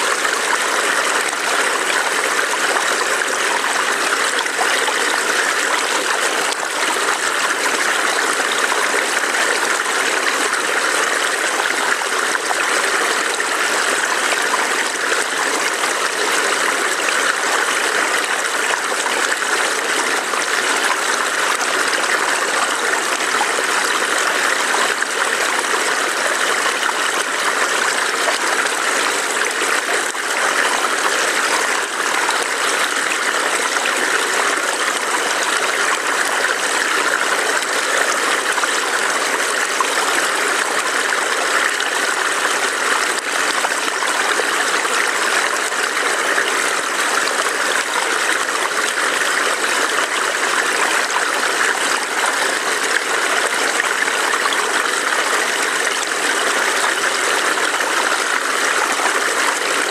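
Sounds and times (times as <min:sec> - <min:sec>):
stream burbling over rocks: 0:00.0 - 0:59.9.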